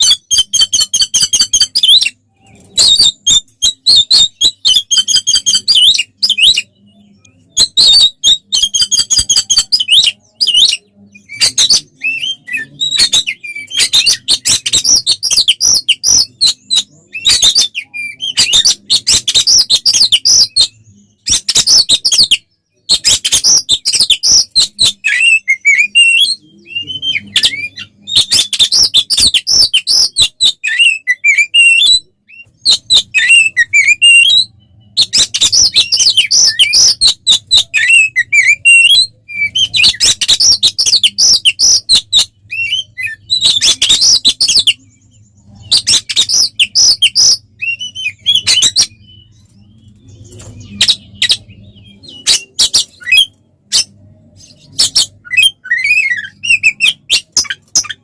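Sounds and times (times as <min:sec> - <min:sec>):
songbird singing rapid phrases: 0:00.0 - 0:58.0.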